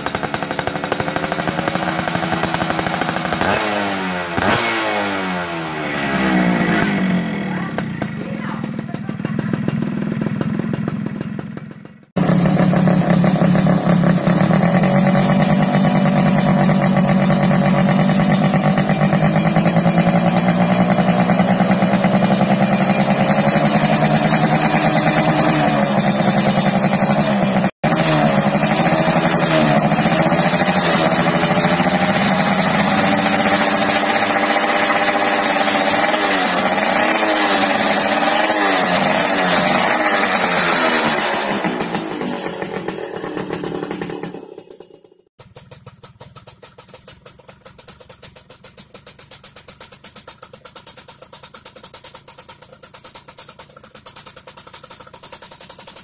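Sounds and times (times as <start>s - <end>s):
two-stroke engine idling: 0.0s - 56.0s.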